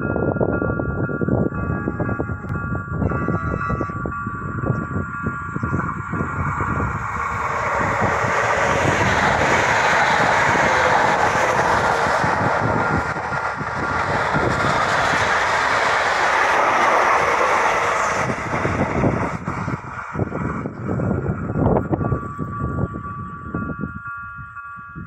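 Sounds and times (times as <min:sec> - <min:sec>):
wheel and rail noise: 0:00.0 - 0:24.8
train passing close by: 0:00.0 - 0:25.0.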